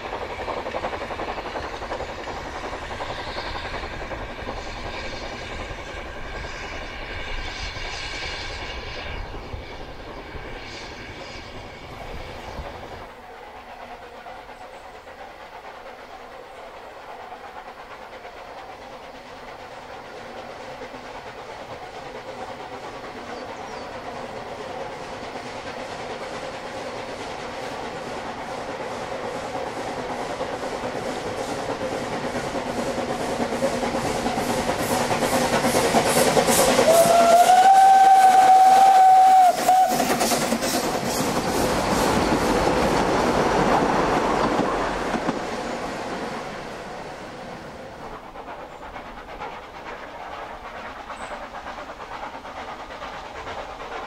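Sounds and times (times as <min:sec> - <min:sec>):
steam hissing: 0:00.0 - 0:54.0
steam locomotive approaching: 0:00.0 - 0:54.0
steam train running past: 0:00.0 - 0:54.0.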